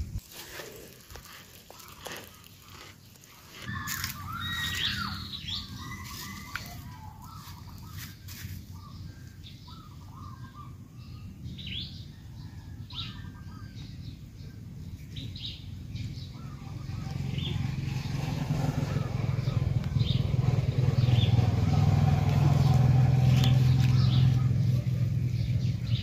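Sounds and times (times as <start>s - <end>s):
birds chirping: 0.0s - 26.0s
low steady rumble: 0.0s - 26.0s.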